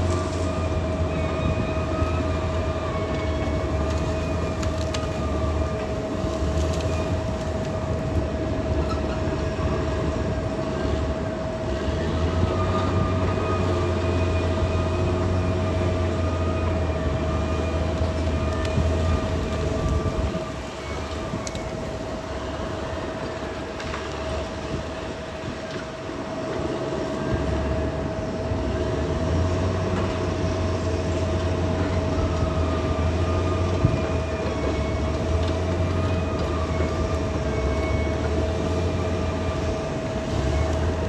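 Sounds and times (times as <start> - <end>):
bulldozer diesel engine rumble: 0.0 - 41.0
steady whine: 0.0 - 41.0.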